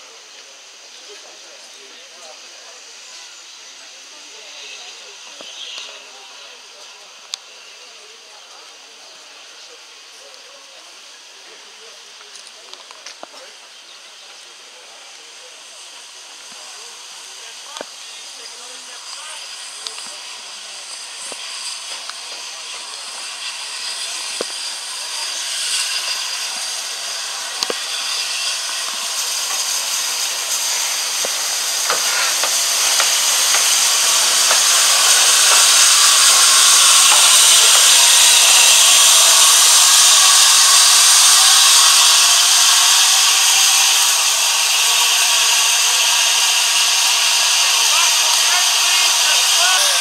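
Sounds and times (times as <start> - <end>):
steam locomotive hissing: 0.0 - 50.0.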